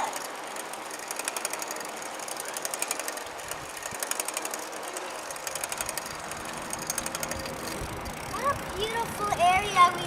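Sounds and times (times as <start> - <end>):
bicycle freewheel clicking: 0.0 - 10.0
steady rushing noise: 0.0 - 10.0.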